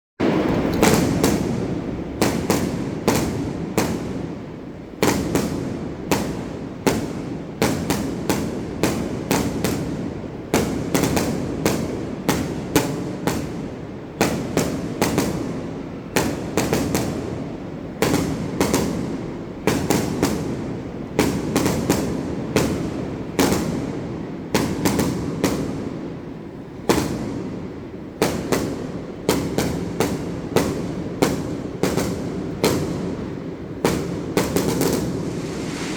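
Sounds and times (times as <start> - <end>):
fireworks bursting with echo: 0.2 - 35.9.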